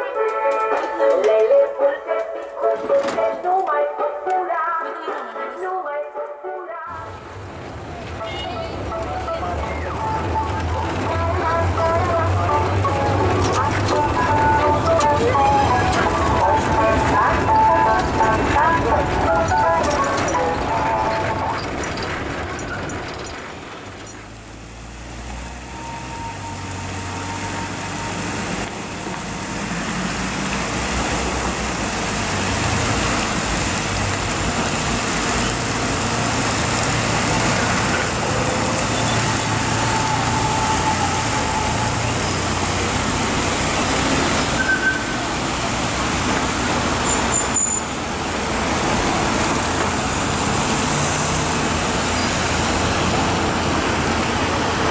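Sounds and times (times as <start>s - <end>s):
road traffic noise: 6.9s - 54.9s.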